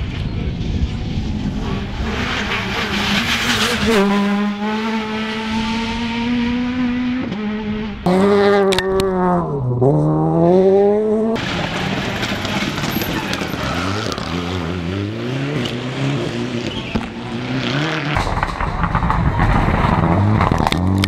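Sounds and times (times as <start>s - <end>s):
car engine at high revs: 0.6s - 19.1s.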